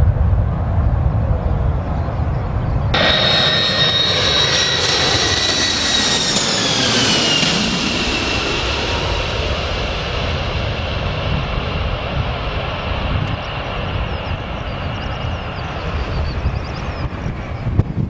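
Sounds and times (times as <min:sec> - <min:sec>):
jet engines passing with turbine whine: 0:00.0 - 0:18.0
low rumble: 0:00.0 - 0:18.0.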